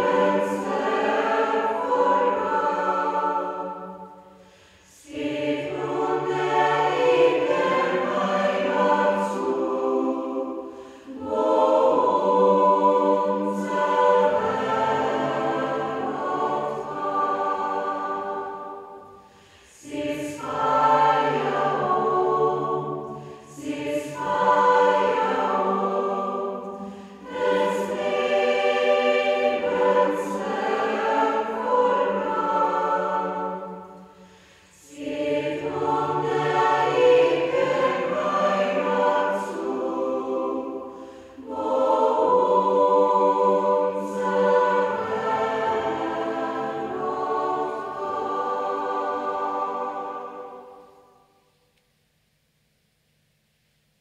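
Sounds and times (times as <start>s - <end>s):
choir singing: 0.0s - 51.4s.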